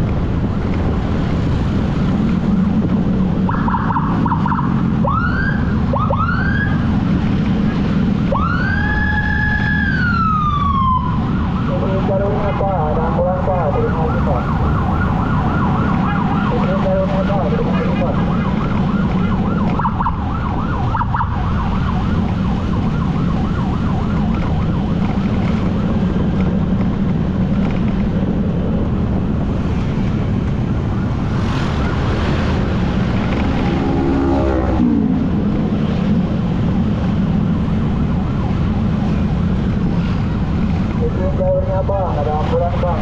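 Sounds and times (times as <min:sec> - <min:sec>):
motorcycle engine drone: 0:00.0 - 0:43.0
road wind: 0:00.0 - 0:43.0
emergency siren warbling: 0:01.4 - 0:43.0.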